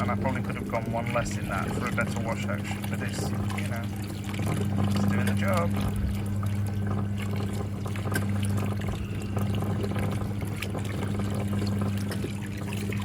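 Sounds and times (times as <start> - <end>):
motor hum: 0.0 - 13.0
water churning in washing machine: 0.0 - 13.0.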